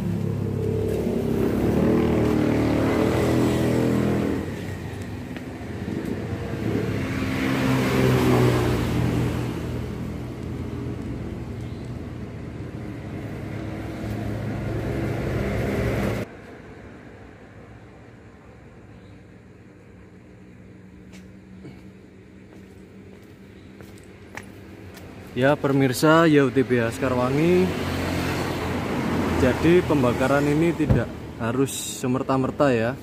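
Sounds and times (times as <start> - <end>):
vehicle engines passing: 0.0 - 33.0.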